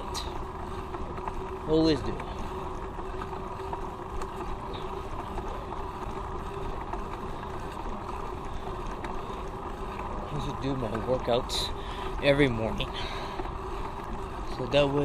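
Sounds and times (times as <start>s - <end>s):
bicycle rolling: 0.0s - 15.0s.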